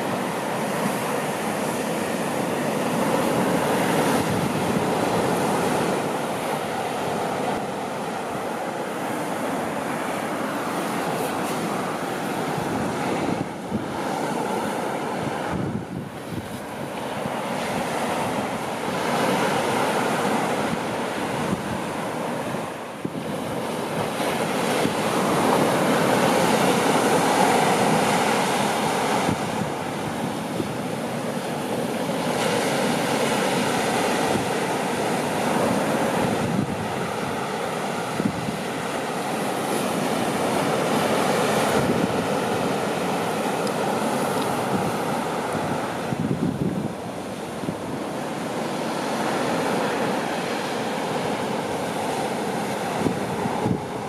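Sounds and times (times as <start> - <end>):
sea surf breaking on beach: 0.0 - 54.0
wind buffeting microphone: 0.0 - 54.0.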